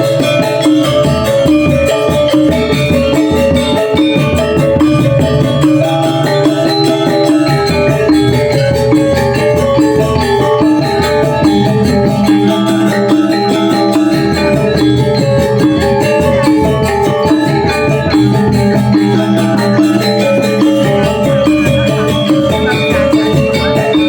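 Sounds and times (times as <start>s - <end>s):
metallophones ringing: 0.0s - 24.0s.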